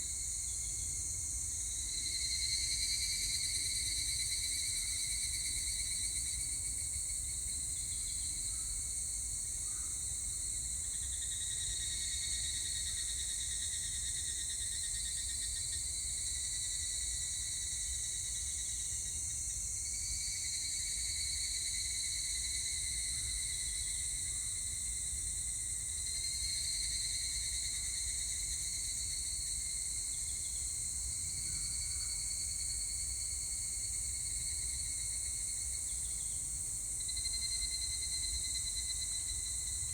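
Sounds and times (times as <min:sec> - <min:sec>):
evening cicadas singing: 0:00.2 - 0:39.9.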